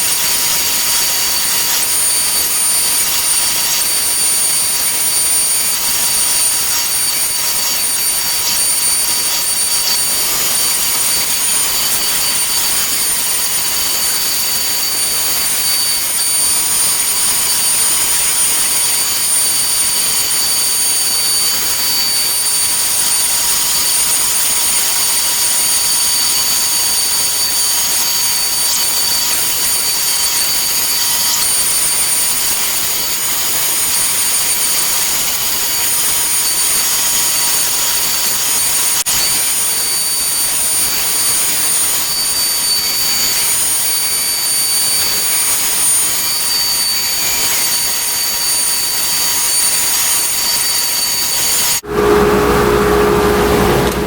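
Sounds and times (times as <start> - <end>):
router spindle whine: 0.0 - 32.4, 35.8 - 54.0.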